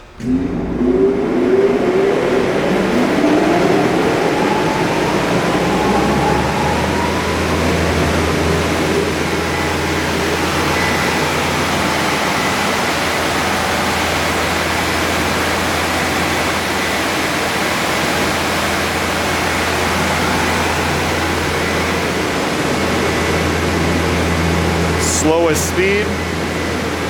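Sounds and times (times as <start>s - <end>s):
belt sander running: 0.0s - 27.0s.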